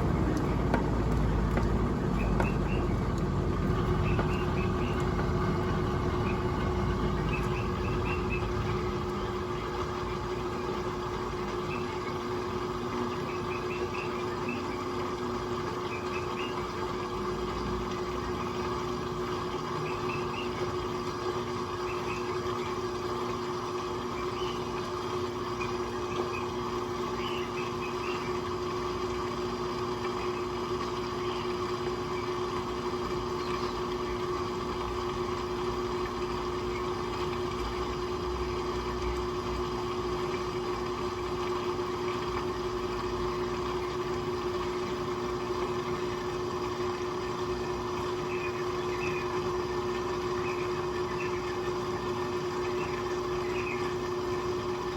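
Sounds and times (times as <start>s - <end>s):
washing machine motor hum: 0.0s - 54.9s.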